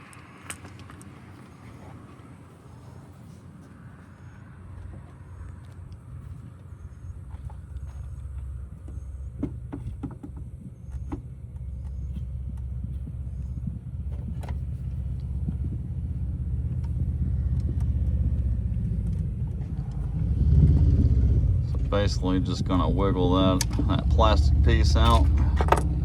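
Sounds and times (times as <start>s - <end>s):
low rumble: 4.2s - 26.0s.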